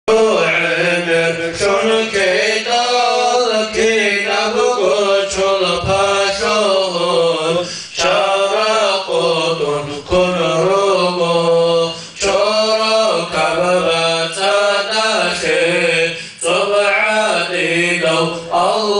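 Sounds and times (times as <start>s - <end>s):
man chanting: 0.1s - 18.9s.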